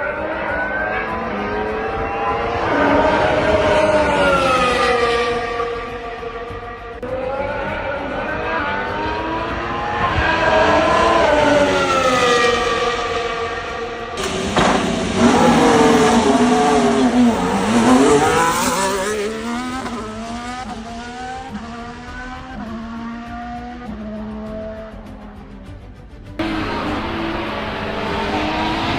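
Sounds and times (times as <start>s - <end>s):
racing car engine passing: 0.0s - 25.6s, 26.4s - 28.9s.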